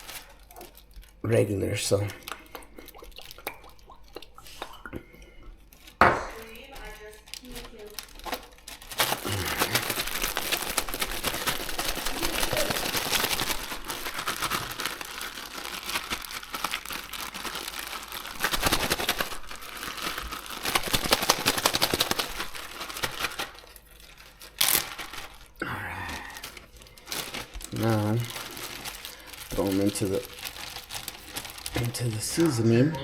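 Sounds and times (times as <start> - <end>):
plastic crinkling and rustling: 0.0 - 33.0.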